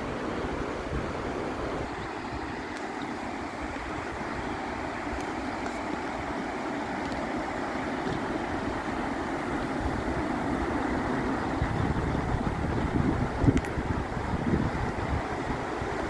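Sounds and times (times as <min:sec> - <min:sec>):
river water rushing over rapids: 0:00.0 - 0:16.0.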